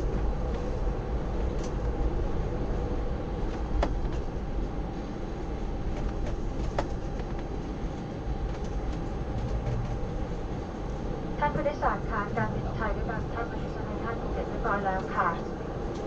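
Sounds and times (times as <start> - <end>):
airplane cabin rumble and rattle: 0.0 - 16.0.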